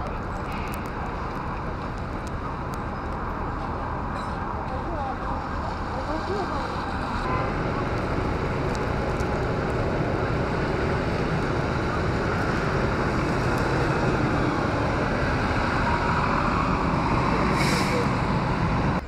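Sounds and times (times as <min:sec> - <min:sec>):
traffic on wet road: 0:00.0 - 0:19.0.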